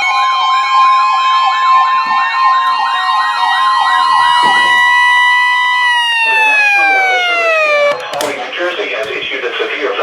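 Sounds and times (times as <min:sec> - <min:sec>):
electronic siren yelping: 0:00.0 - 0:08.2.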